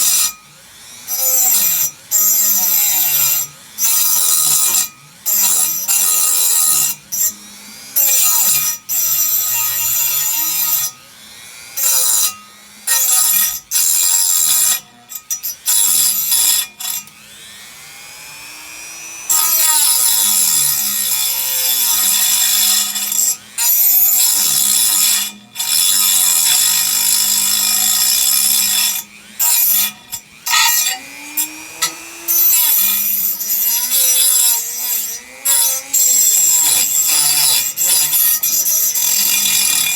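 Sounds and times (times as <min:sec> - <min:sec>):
cutting disc whining into metal: 0:00.0 - 0:39.9.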